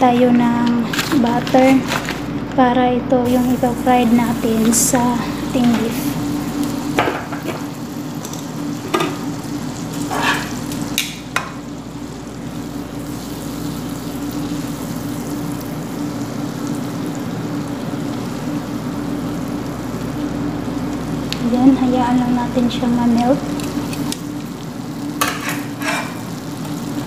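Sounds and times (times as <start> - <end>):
steady low hum: 0.0 - 27.0
butter sizzling in a frying pan: 3.3 - 27.0.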